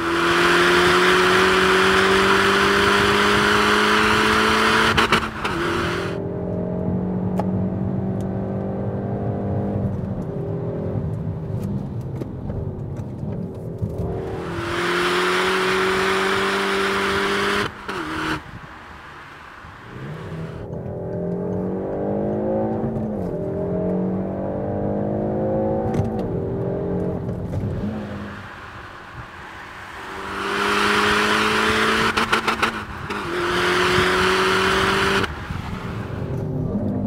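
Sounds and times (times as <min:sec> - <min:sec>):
car engine accelerating hard: 0:00.0 - 0:11.3, 0:13.8 - 0:37.0.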